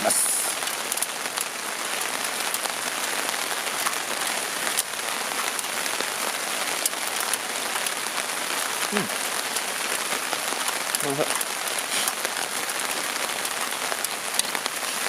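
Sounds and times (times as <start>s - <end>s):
rain on a tarp: 0.0s - 15.0s
raindrops ticking: 0.0s - 15.0s.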